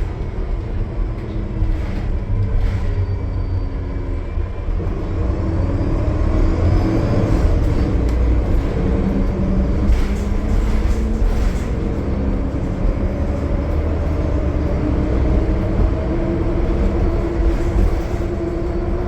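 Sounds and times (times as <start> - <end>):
bus diesel engine rumble: 0.0 - 19.0.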